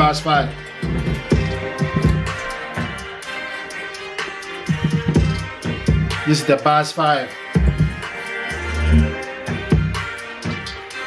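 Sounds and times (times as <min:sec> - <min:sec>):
electronic music with drum-machine beat: 0:00.0 - 0:11.0.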